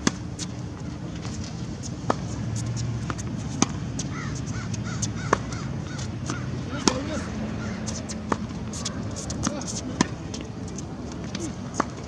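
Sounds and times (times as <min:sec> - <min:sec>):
tennis ball hitting racket: 0:00.0 - 0:12.0.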